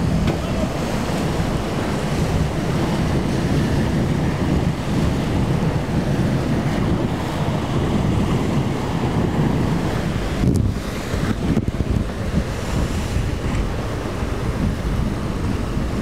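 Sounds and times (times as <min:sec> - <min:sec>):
surf and breaking waves: 0:00.0 - 0:16.0
wind rumbling on microphone: 0:00.0 - 0:16.0.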